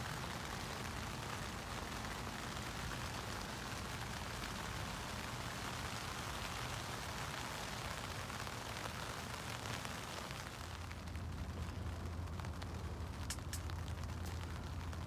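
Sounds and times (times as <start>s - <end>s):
rain on tent fabric: 0.0s - 15.0s.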